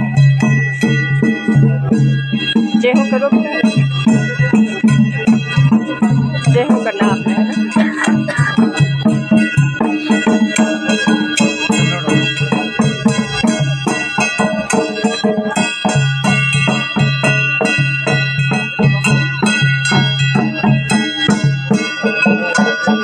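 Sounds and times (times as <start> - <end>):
drums beating fast rhythm: 0.0 - 23.0
wind instrument tones: 0.0 - 23.0.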